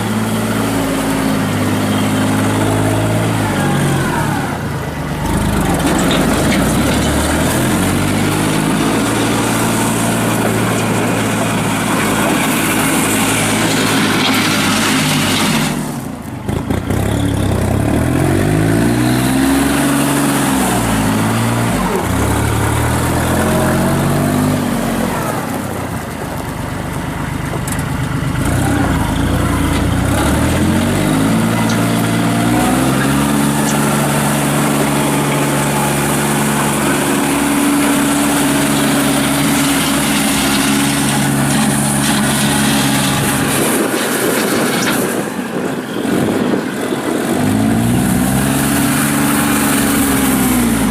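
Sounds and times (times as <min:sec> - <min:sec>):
tractor diesel engine revving: 0:00.0 - 0:50.9.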